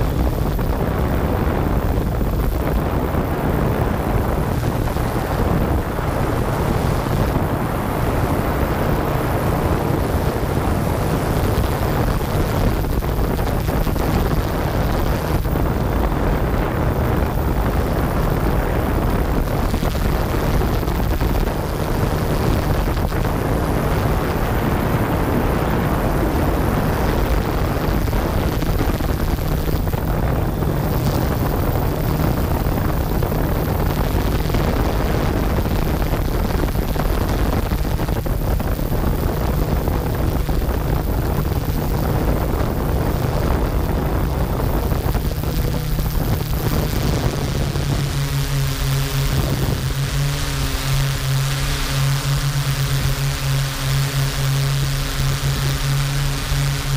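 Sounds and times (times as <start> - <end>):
drone propellers whirring: 0.0 - 56.9
wind noise: 0.0 - 56.9.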